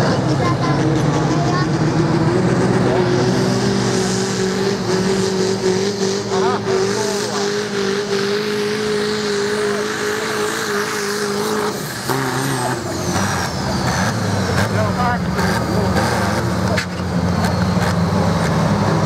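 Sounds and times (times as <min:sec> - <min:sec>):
engine at high revs: 0:00.0 - 0:19.0.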